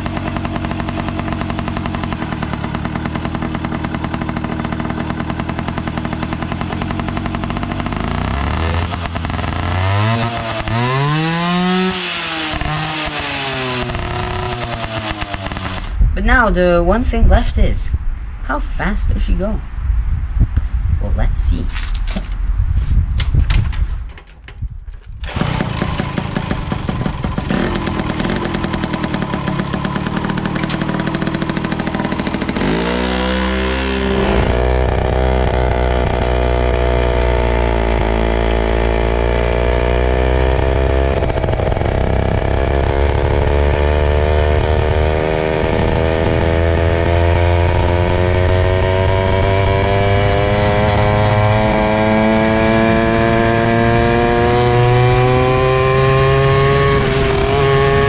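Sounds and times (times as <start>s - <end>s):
moped two-stroke engine revving: 0.0s - 16.0s, 25.2s - 58.0s.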